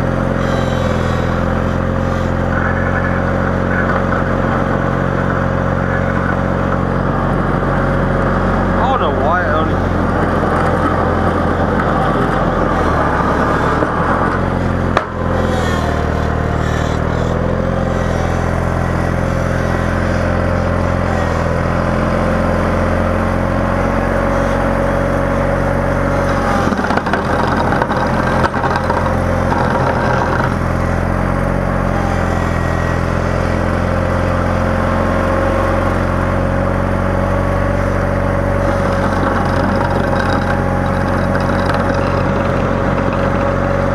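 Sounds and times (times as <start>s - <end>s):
vehicle engine under load: 0.0s - 43.9s.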